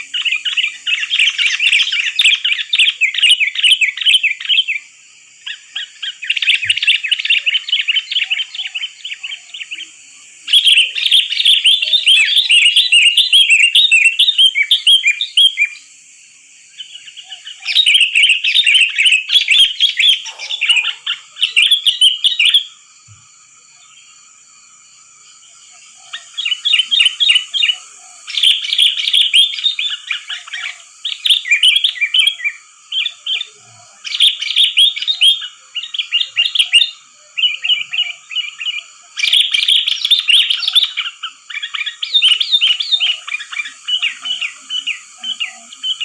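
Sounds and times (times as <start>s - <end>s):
bulbul chirping calls: 0.0s - 16.0s, 16.7s - 24.2s, 25.4s - 46.0s.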